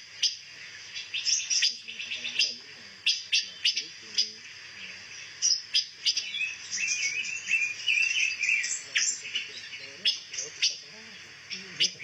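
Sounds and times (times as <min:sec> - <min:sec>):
songbird chirping and twittering: 0:00.0 - 0:12.0.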